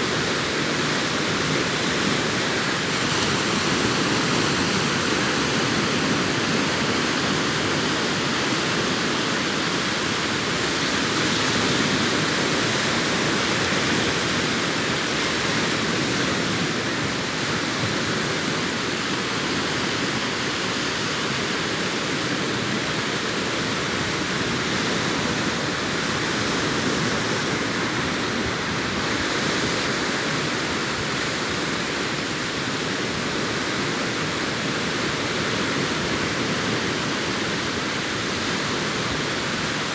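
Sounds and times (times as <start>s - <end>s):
sea surf washing on beach: 0.0s - 39.9s.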